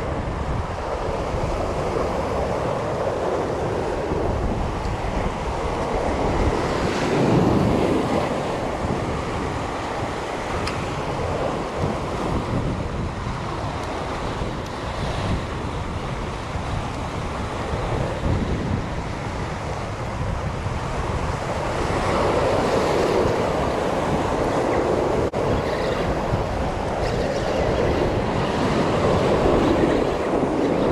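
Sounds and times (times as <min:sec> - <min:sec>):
surf washing on rocky shore: 0:00.0 - 0:30.9
wind buffeting microphone: 0:00.0 - 0:30.9.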